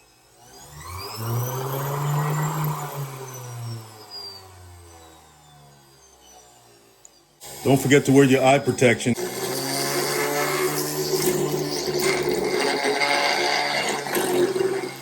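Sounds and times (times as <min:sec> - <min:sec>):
rotary tool whine: 0:00.0 - 0:15.0.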